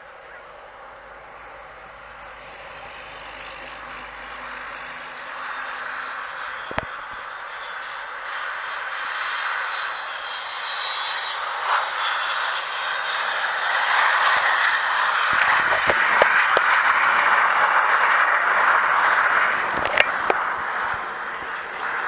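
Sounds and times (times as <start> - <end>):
jet roar: 0.0 - 22.0.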